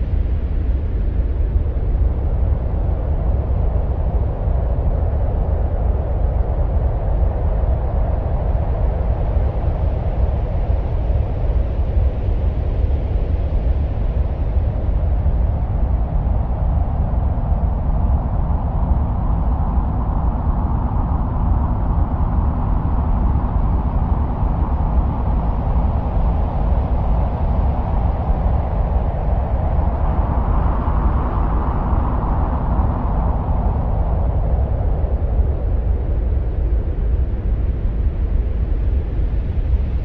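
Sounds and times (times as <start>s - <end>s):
deep wind-like rumble with hiss: 0.0s - 40.0s.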